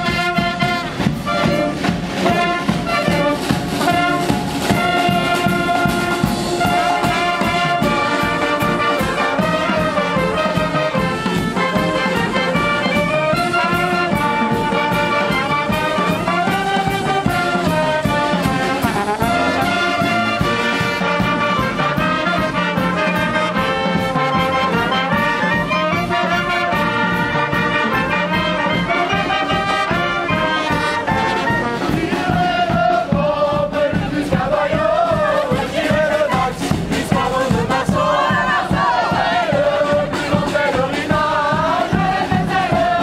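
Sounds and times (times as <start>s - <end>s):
brass band playing march: 0.0s - 43.0s
steady drum beat: 0.0s - 43.0s.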